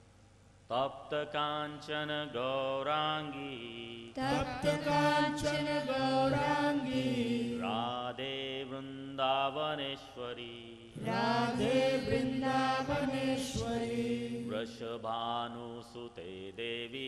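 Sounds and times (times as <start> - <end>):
man and woman singing a chant: 0.7 - 17.0.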